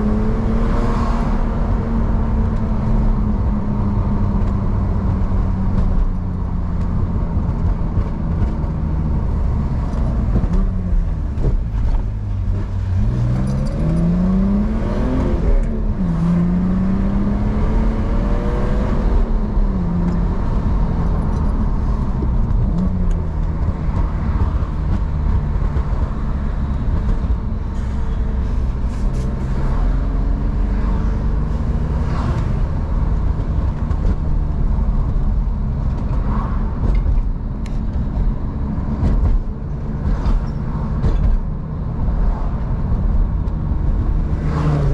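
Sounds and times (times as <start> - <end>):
car engine and exhaust revving: 0.0 - 44.9.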